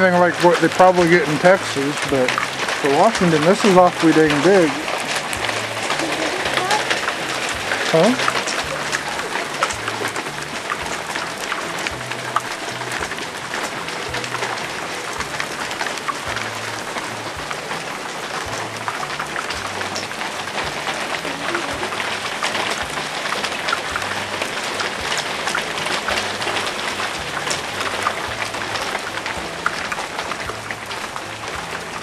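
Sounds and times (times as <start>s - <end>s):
hailstones hitting a roof: 0.0s - 32.0s.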